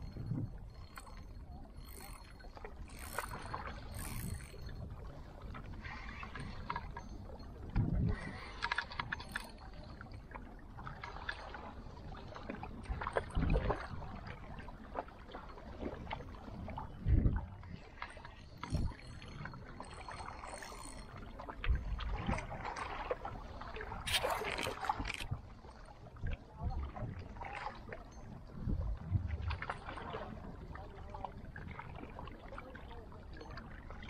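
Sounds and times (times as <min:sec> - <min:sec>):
small waves lapping on rocks: 0:00.9 - 0:07.0, 0:07.6 - 0:34.0.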